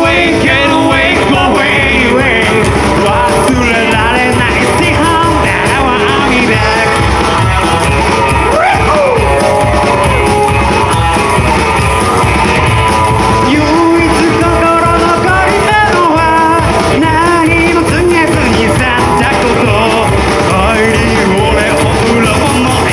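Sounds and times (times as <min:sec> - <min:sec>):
person singing: 0:00.0 - 0:10.8, 0:13.3 - 0:22.9
rockabilly band playing live: 0:00.0 - 0:22.9.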